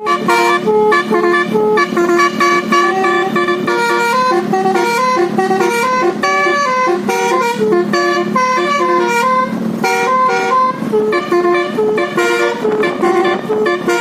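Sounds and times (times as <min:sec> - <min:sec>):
musical air horn melody: 0:00.0 - 0:14.0.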